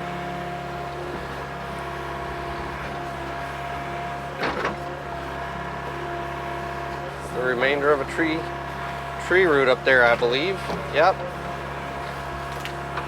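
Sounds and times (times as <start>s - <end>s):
diesel engine running steadily: 0.0s - 13.0s.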